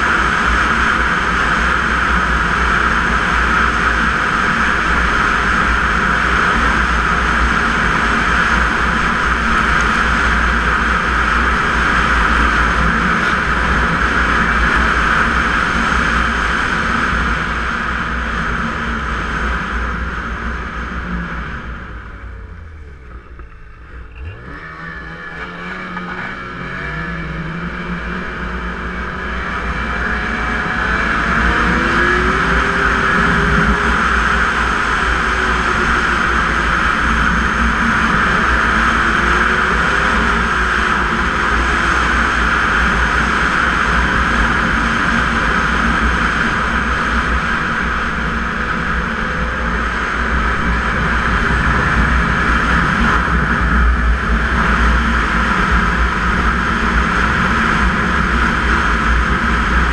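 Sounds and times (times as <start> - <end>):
snowmobile engine and track noise: 0.0 - 59.9.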